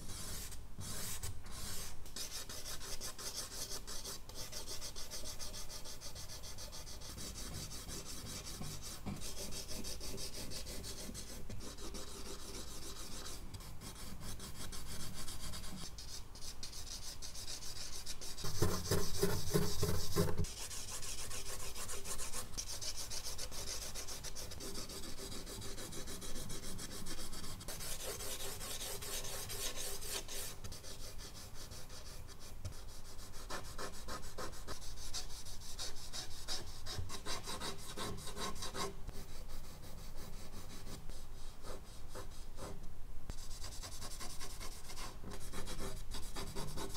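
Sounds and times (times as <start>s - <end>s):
charcoal scratching on paper: 0.0s - 42.8s, 43.4s - 46.9s.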